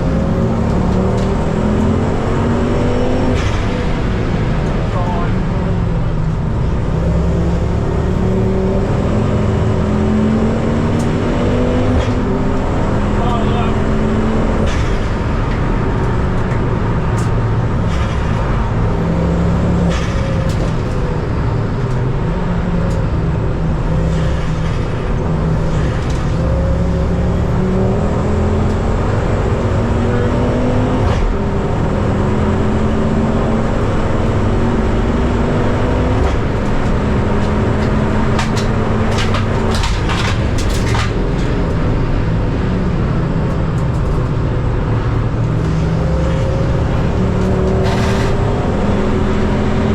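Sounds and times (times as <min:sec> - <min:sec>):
race car engine running hard: 0:00.0 - 0:49.9.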